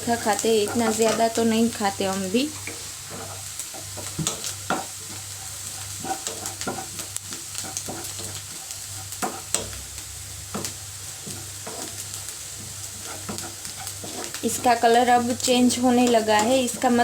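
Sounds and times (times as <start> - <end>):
spoon scraping a pan: 0.0 - 1.9, 2.5 - 9.8, 10.5 - 17.0
onions sizzling in a pan: 0.0 - 17.0.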